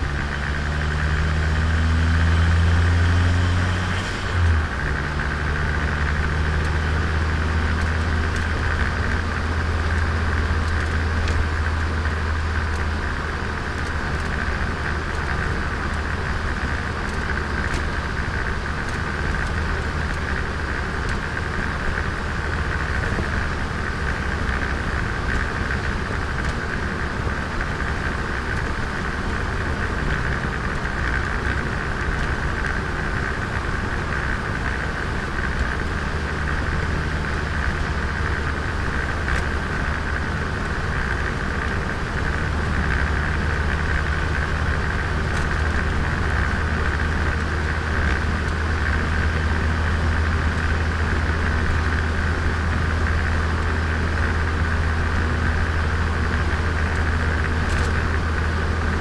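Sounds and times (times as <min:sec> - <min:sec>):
car engine drone: 0:00.0 - 0:59.0
road and tyre noise: 0:00.0 - 0:59.0.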